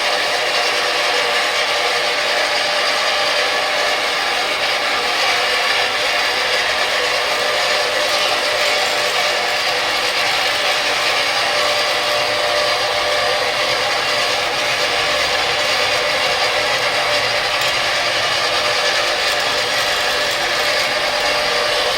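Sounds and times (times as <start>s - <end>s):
floor grinding machine running: 0.0s - 21.9s.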